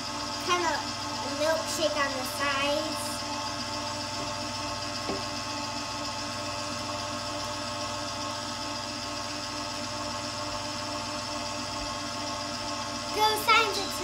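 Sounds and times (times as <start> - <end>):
stand mixer whisking cream: 0.0 - 14.0.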